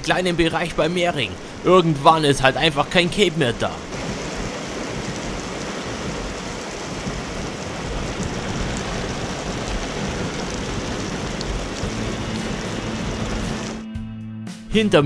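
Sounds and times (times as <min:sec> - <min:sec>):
heavy rain on asphalt road: 0:00.0 - 0:13.8.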